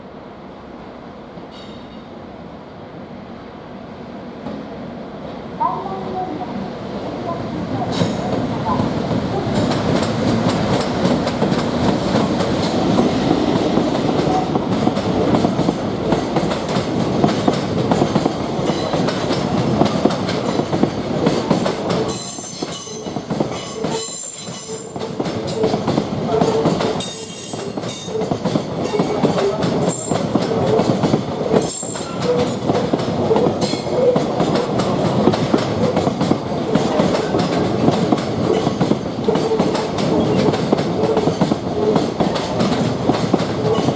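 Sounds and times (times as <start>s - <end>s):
train wheels clattering on rail joints: 7.9s - 43.9s.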